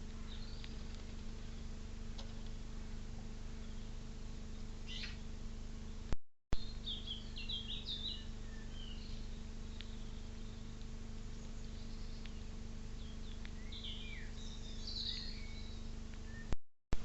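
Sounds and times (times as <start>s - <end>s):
songbird singing: 0.0s - 16.6s
low electrical hum: 0.0s - 17.0s.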